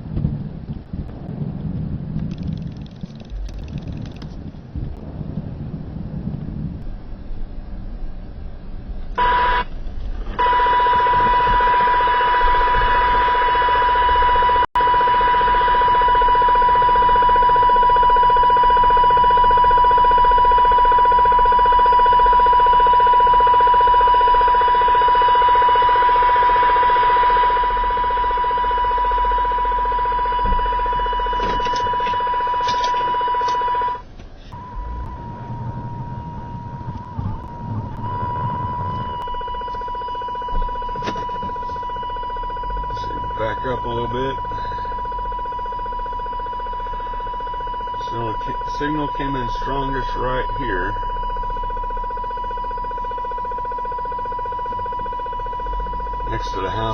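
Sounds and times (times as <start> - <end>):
buzzing electronic tone from radio: 9.2 - 56.9.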